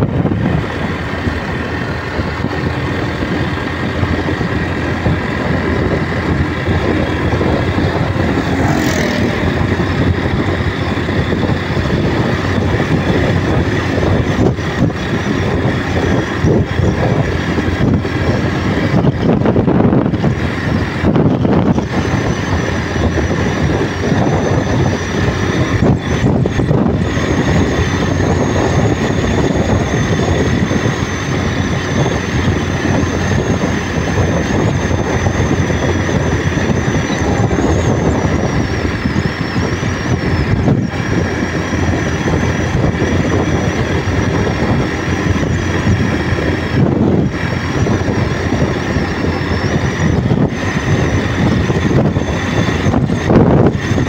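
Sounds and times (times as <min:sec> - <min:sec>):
motorcycle engine and road noise: 0:00.0 - 0:54.0
wind rushing over microphone: 0:00.0 - 0:54.0
thin high whine: 0:02.1 - 0:54.0.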